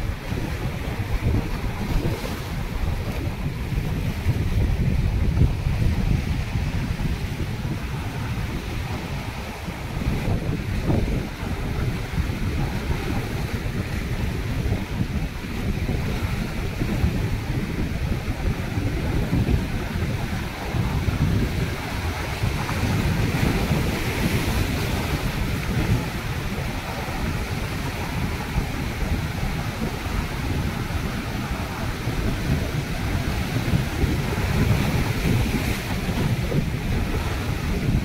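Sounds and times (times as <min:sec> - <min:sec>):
sea waves surging between rocks: 0:00.0 - 0:38.0
wind buffeting microphone: 0:00.0 - 0:38.0.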